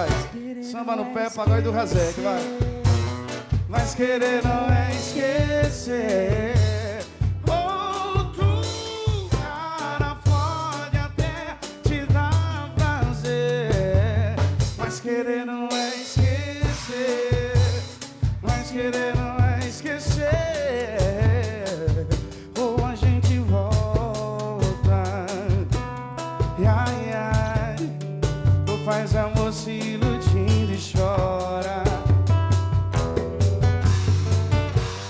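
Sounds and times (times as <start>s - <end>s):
band playing samba beat: 0.0s - 0.6s, 1.2s - 35.0s
person singing: 0.0s - 25.8s, 28.7s - 32.2s.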